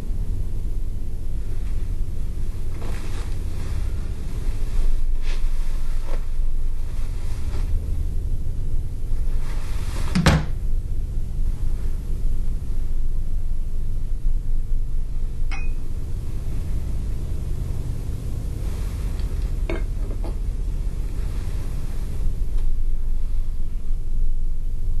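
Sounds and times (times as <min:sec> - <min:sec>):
low rumbling drone: 0:00.0 - 0:25.0.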